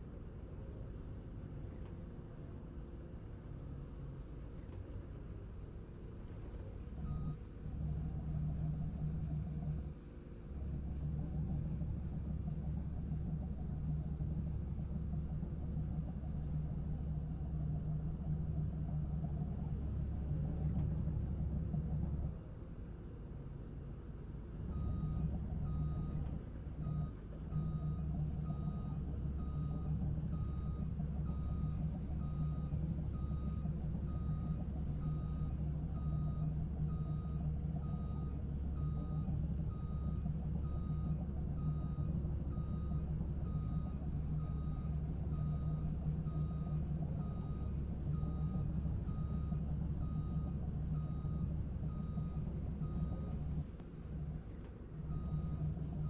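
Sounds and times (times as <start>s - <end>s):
diesel engine running: 5.2s - 56.0s.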